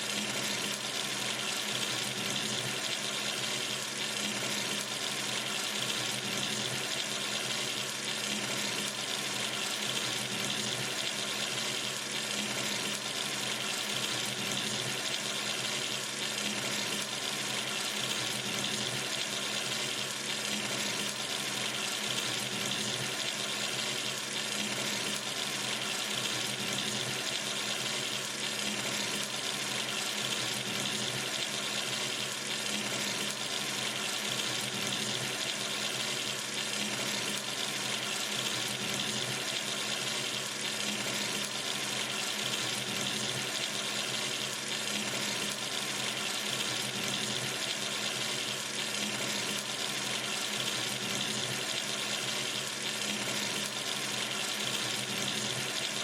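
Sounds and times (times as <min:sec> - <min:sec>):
tap water running into sink: 0:00.1 - 0:56.0.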